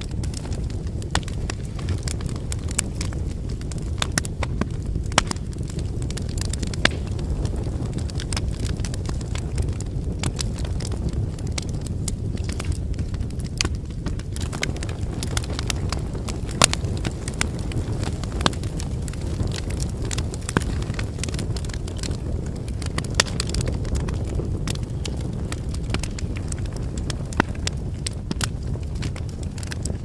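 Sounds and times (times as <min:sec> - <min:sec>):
campfire flames rumbling: 0:00.0 - 0:30.0
firewood crackling and popping: 0:00.0 - 0:30.0.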